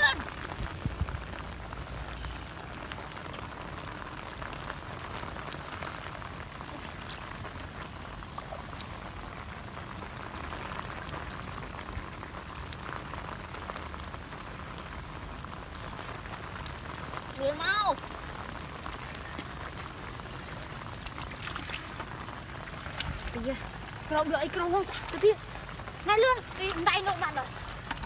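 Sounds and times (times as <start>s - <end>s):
heavy rain falling: 0.0s - 28.0s
raindrops ticking: 0.0s - 28.0s.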